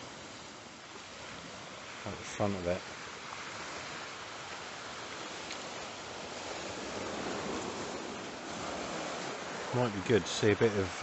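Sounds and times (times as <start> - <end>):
waves on shingle beach: 0.0 - 11.0.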